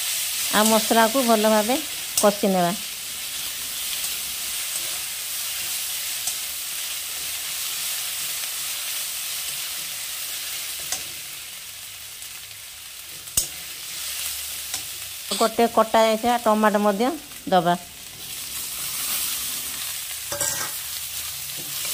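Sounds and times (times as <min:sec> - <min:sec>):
onions sizzling in hot oil: 0:00.0 - 0:21.9.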